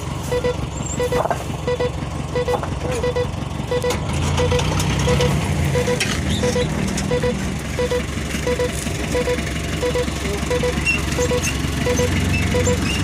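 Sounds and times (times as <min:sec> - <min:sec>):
truck engine rumble: 0:00.0 - 0:13.0
short double beep: 0:00.3 - 0:12.8.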